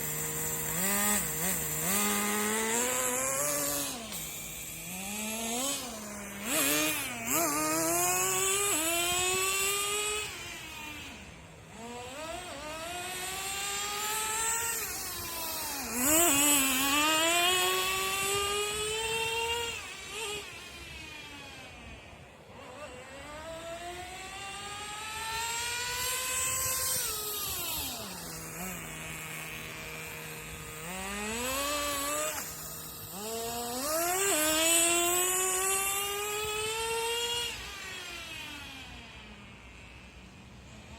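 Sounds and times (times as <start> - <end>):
model car engine revving: 0.0 - 40.9.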